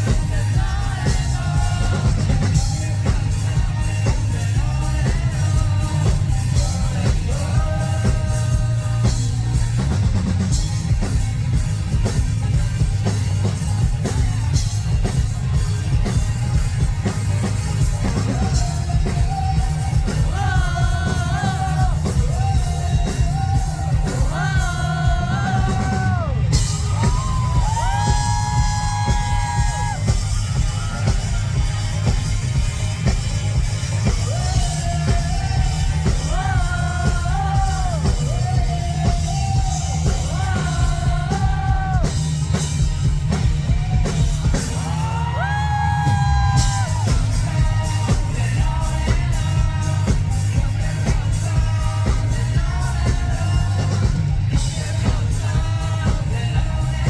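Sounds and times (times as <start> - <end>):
person singing lead vocal: 0.0 - 11.0, 17.5 - 32.1, 34.0 - 57.0
drums and bass beat: 0.0 - 57.0
live rock band playing: 0.0 - 57.0.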